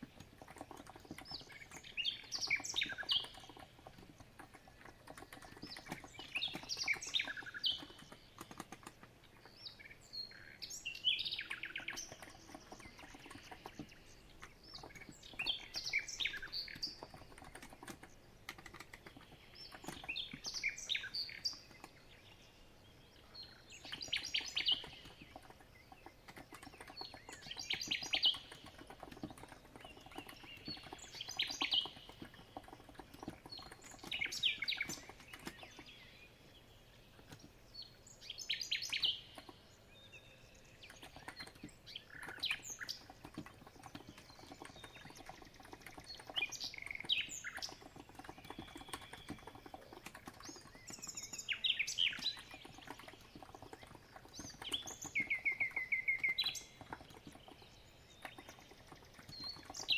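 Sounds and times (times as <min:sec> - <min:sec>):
soft keyboard typing: 0:00.0 - 0:10.5, 0:11.2 - 0:22.5, 0:23.3 - 0:36.0, 0:37.1 - 0:37.6, 0:38.7 - 0:59.9
songbird trilling: 0:00.0 - 0:22.5, 0:23.1 - 0:36.3, 0:37.2 - 0:59.9.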